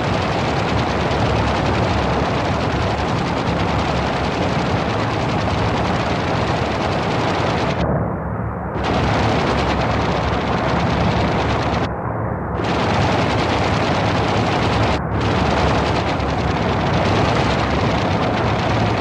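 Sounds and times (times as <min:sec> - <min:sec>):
aircraft machine-gun fire: 0:00.0 - 0:11.9, 0:12.6 - 0:19.0
propeller engine drone: 0:00.0 - 0:19.0.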